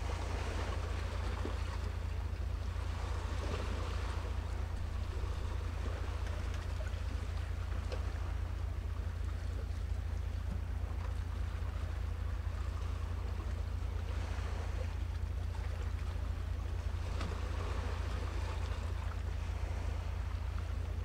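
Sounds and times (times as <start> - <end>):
low rumble: 0.0 - 21.0
sea waves washing: 0.0 - 21.0.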